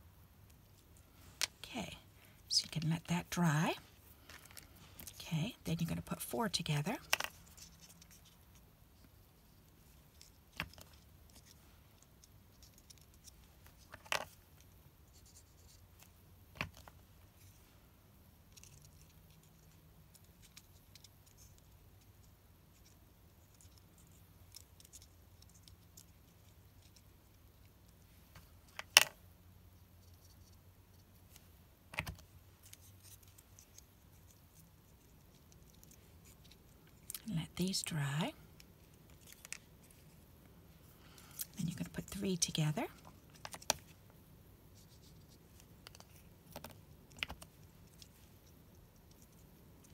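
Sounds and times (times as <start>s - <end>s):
faint low hum: 0.0s - 49.9s.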